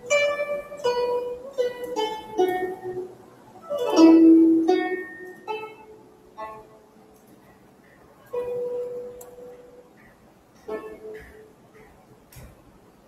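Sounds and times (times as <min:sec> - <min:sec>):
plucked string instrument melody: 0:00.0 - 0:12.1.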